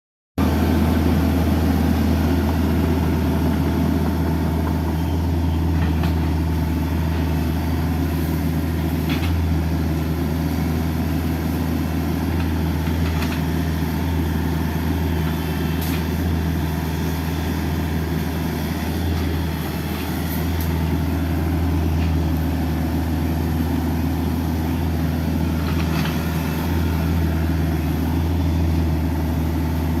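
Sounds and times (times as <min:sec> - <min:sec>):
diesel engine humming: 0:00.4 - 0:30.0.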